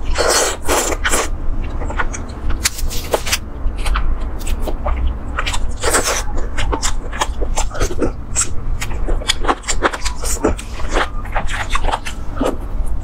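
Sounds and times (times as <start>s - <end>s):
wet chewing and lip smacks: 0.5s - 13.0s.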